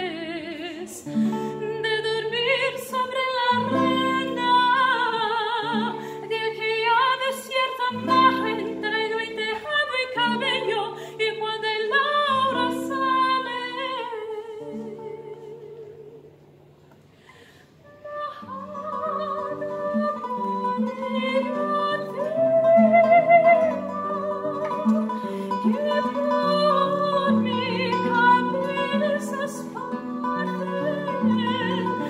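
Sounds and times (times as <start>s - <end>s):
woman singing operatically: 0.0s - 16.3s, 17.8s - 32.0s
plucked classical guitar: 0.0s - 17.1s, 17.9s - 32.0s.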